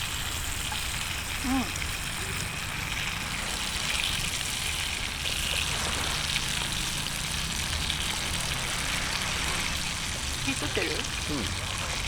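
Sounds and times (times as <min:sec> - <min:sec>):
fire crackling: 0:00.0 - 0:12.0
meat sizzling over fire: 0:00.0 - 0:12.0
low fire rumble: 0:00.1 - 0:12.0.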